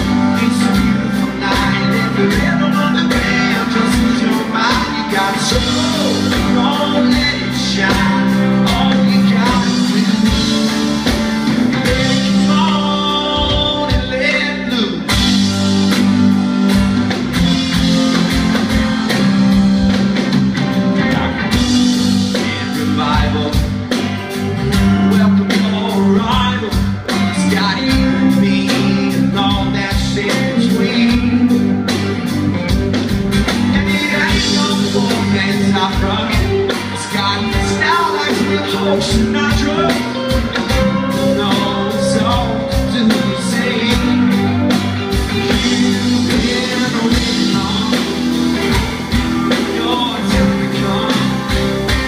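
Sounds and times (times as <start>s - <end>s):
person singing: 0.0s - 15.5s, 20.6s - 32.4s, 33.4s - 52.0s
live rock band playing: 0.0s - 52.0s.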